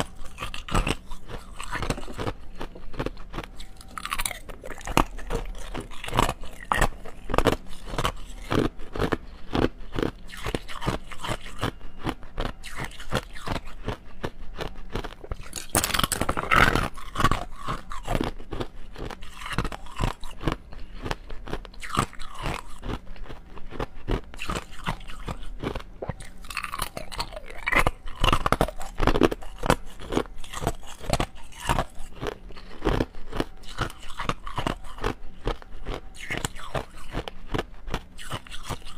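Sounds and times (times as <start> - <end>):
ice cubes crunching: 0.0 - 38.9.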